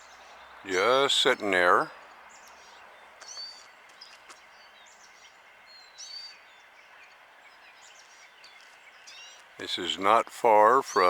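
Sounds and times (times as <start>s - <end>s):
faint outdoor hiss: 0.0s - 11.0s
small birds chirping: 0.0s - 11.0s.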